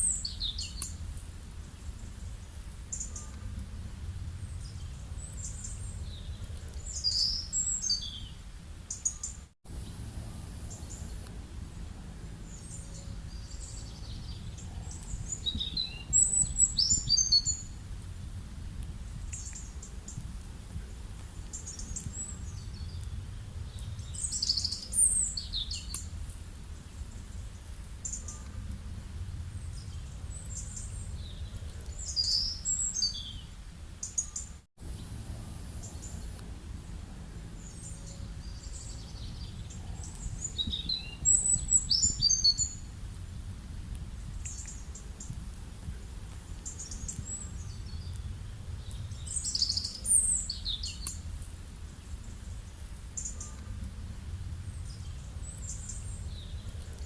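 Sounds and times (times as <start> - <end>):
low outdoor rumble: 0.0 - 57.0
birds chirping: 1.6 - 3.6, 4.2 - 17.8, 21.2 - 43.0, 44.2 - 53.8.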